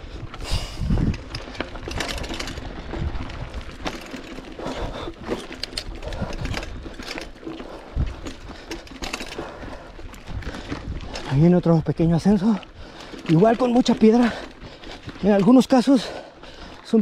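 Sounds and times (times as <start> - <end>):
bike rattling: 0.0 - 17.0
tyres crunching on stones: 0.8 - 17.0.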